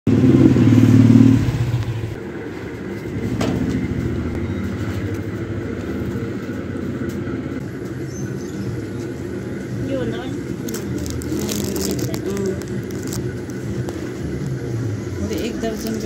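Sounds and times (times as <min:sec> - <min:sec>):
motor engine rumbling: 0:00.1 - 0:16.0.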